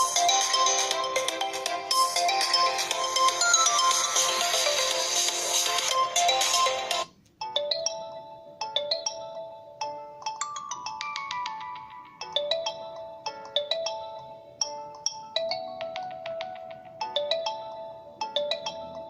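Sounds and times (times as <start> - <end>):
phone ringtone music: 0.0 - 19.0.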